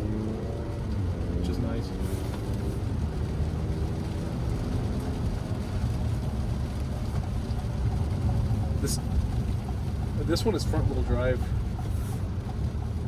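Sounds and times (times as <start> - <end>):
car cabin road noise: 0.0 - 13.0
heavy rain: 0.0 - 13.0.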